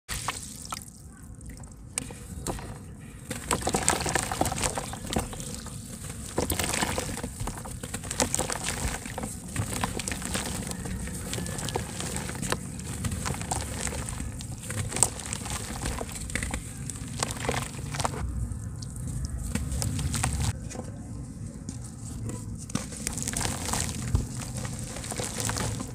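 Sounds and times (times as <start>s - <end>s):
water sloshing in a bucket: 0.1s - 20.9s, 22.7s - 25.9s
crumbling dirt crackles: 0.1s - 25.9s.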